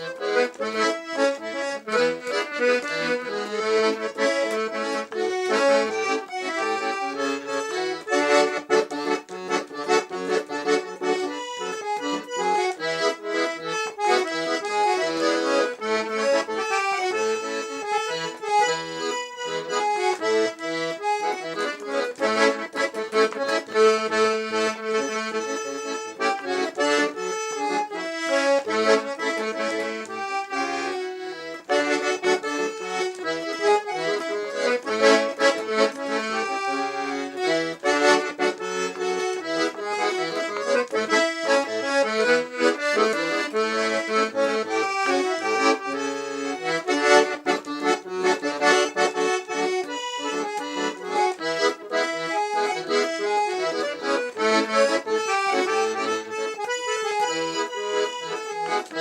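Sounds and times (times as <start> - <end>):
accordion playing lively tune: 0.0 - 59.0.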